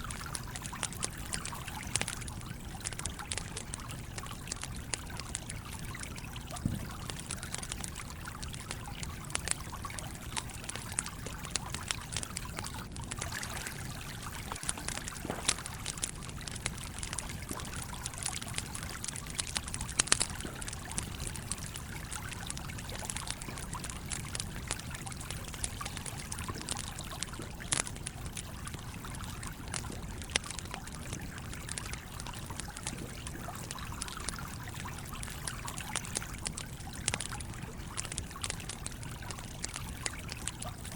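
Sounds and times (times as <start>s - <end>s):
campfire crackling and popping: 0.0s - 40.9s
stream trickling: 0.0s - 40.9s.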